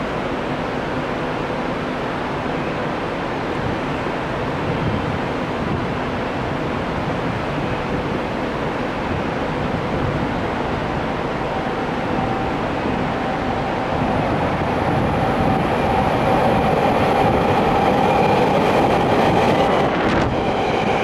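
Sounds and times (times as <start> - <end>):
train rumbling through tunnel: 0.0 - 21.0.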